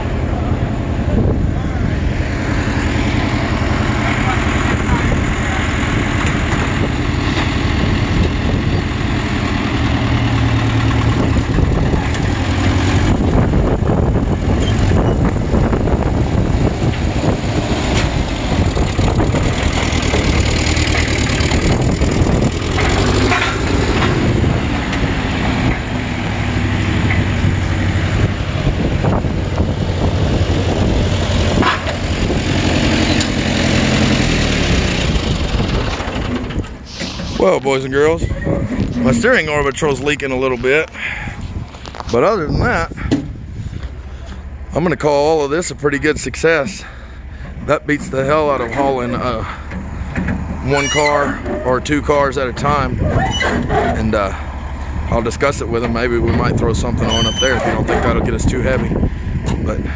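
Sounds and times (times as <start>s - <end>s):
forklift engine running: 0.0s - 59.9s.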